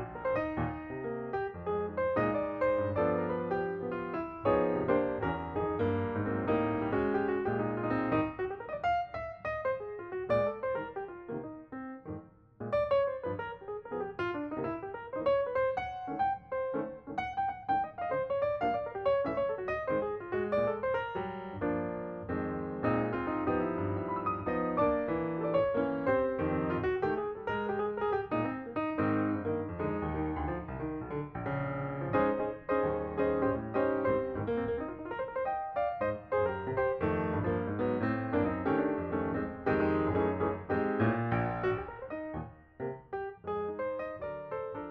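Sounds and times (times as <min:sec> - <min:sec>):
piano music: 0:00.0 - 0:44.9.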